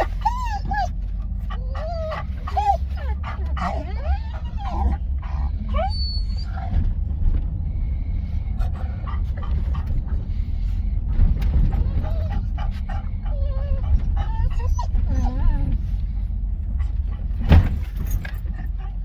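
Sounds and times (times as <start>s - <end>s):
dog whining: 0.0s - 7.0s, 8.6s - 10.6s, 11.2s - 16.2s, 16.8s - 19.0s
low rumble: 0.0s - 19.0s.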